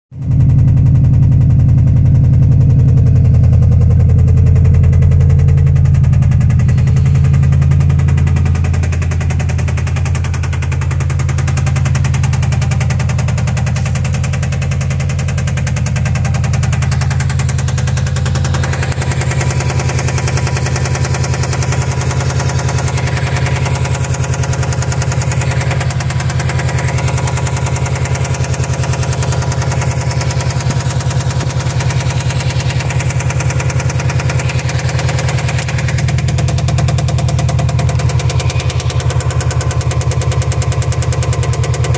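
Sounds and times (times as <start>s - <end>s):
car engine knocking: 0.2s - 41.9s.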